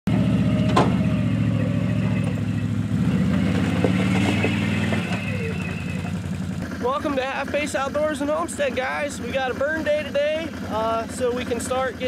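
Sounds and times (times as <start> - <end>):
atv engine running steadily: 0.1 - 12.0.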